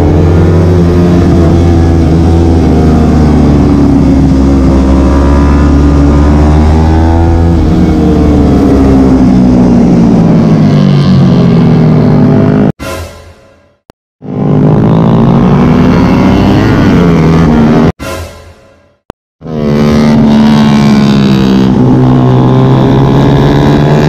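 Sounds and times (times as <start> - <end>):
motorcycle engine revving: 0.0 - 12.8, 14.2 - 18.0, 19.4 - 24.0.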